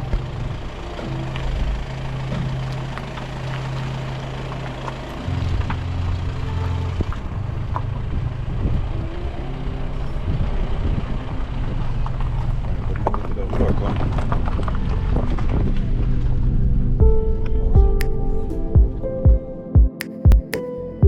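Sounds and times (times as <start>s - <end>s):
car engine under load: 0.0s - 17.0s
gravel clicking under tyres: 0.0s - 18.0s.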